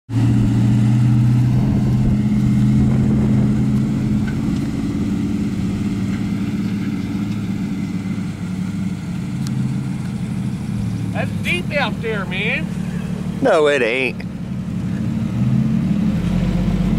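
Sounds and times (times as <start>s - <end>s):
engine idling: 1.3s - 15.3s.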